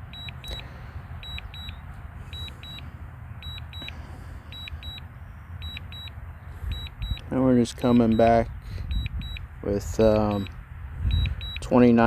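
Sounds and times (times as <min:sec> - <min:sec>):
remote controller double beeps: 0:00.0 - 0:00.6, 0:01.2 - 0:02.8, 0:03.4 - 0:10.5, 0:11.1 - 0:11.8
low steady rumble: 0:00.0 - 0:12.0.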